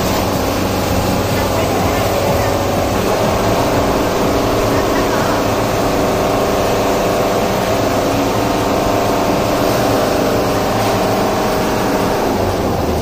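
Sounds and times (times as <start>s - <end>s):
large engine droning: 0.0s - 13.0s.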